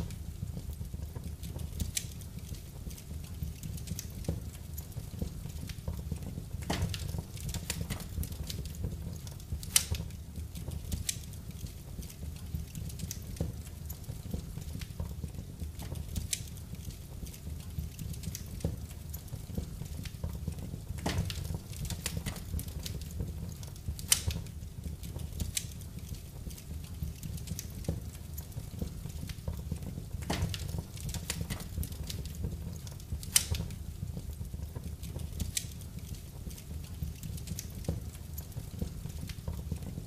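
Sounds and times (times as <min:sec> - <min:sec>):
low rumble of flame: 0:00.0 - 0:40.0
wood fire crackling and popping: 0:00.0 - 0:40.0.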